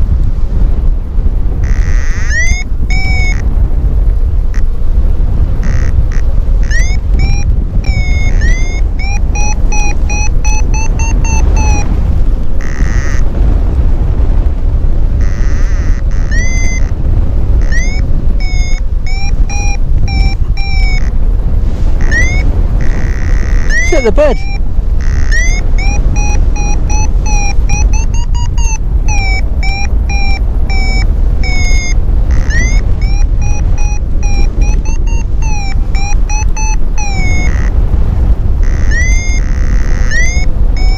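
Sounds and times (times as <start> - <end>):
wind rumble on microphone: 0.0 - 40.9
variometer beeping: 1.5 - 3.5, 5.6 - 14.5, 15.1 - 40.9
long steady electronic tone: 1.6 - 3.4, 5.6 - 13.2, 15.2 - 21.2, 21.8 - 40.9.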